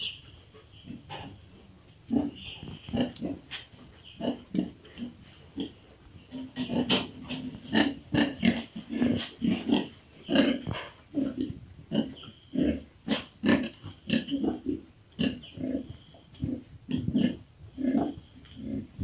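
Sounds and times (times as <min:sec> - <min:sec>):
pigs grunting: 0:02.1 - 0:19.0.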